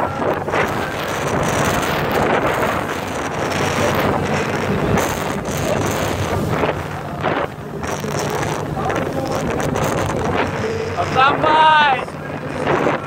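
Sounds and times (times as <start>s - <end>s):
low engine hum: 0.0s - 13.0s
water rushing from wake: 0.0s - 13.0s
wind buffeting microphone: 0.0s - 13.0s.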